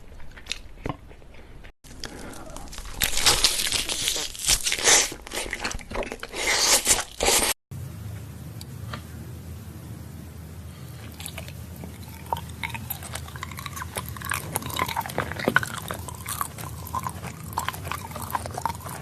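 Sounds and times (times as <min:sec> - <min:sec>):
person chewing food: 0:00.0 - 0:07.6, 0:11.0 - 0:19.0.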